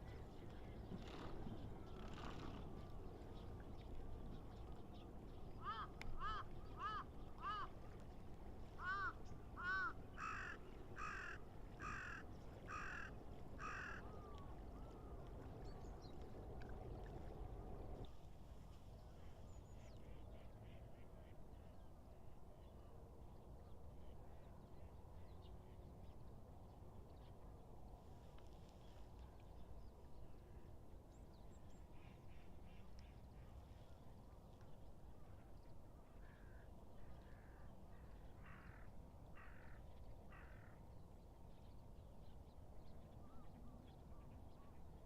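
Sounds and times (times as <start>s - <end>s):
low steady background hiss: 0.0s - 45.0s.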